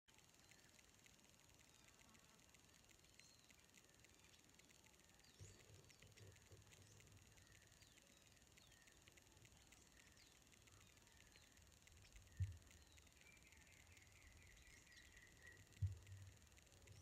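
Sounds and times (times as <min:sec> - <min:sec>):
high insect-like hiss: 0:00.1 - 0:17.0
rapid ticking: 0:00.1 - 0:17.0.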